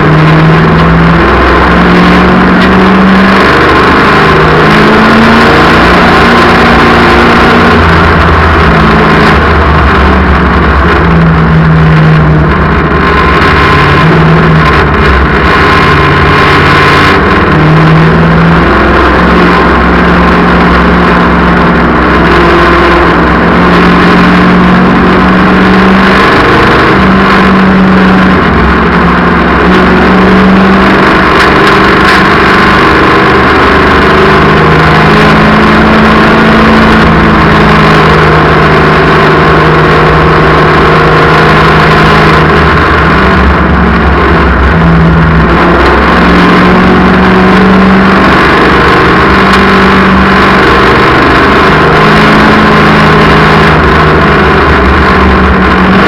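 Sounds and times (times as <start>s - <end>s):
race car engines at full speed: 0.0s - 56.0s.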